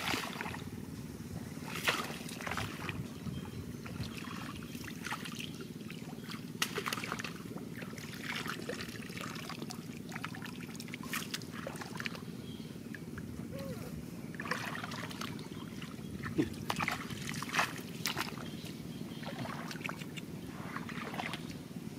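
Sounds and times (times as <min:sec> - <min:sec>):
muddy water splashing: 0:00.0 - 0:00.8, 0:01.4 - 0:21.9.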